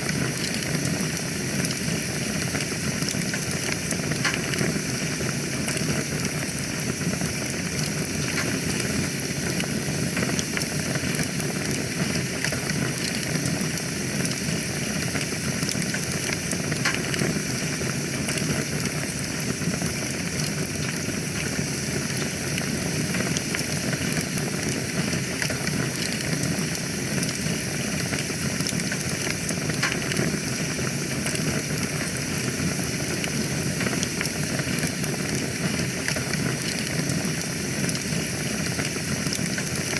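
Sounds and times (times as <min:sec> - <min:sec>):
fire crackles and pops: 0:00.0 - 0:39.9
fire hissing: 0:00.0 - 0:39.9.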